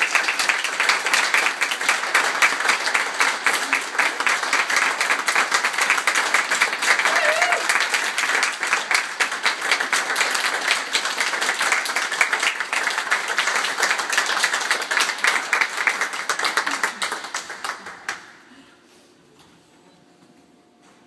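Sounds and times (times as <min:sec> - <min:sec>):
audience applauding: 0:00.0 - 0:18.6.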